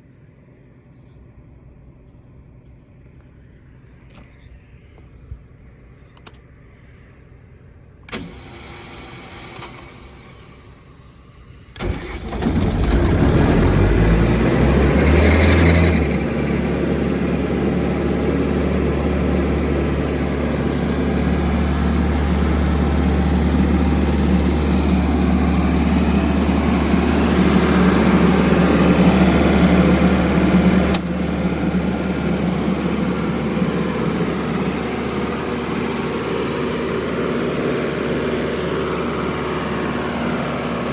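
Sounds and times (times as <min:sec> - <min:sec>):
diesel compressor engine starting: 0:08.0 - 0:40.9.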